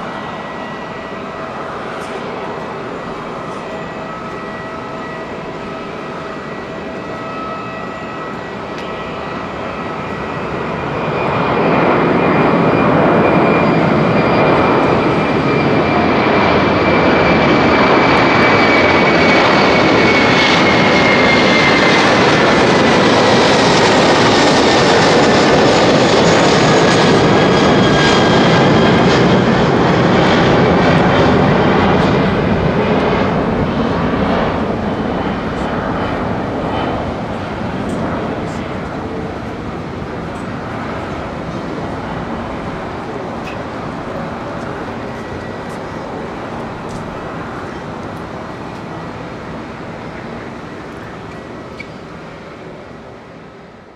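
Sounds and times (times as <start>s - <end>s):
jet airliner roar at takeoff: 0.0s - 53.9s
whining jet engine tone: 0.0s - 53.9s.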